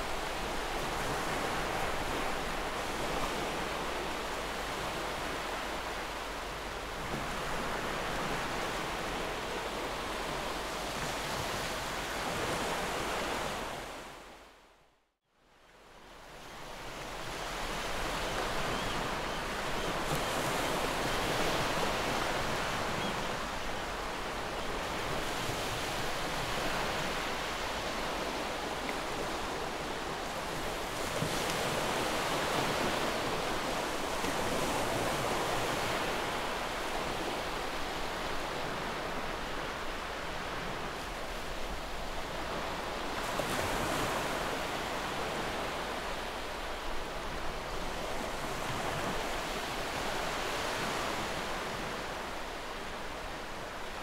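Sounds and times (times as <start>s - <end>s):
ocean surf: 0.0s - 14.3s, 16.3s - 54.0s.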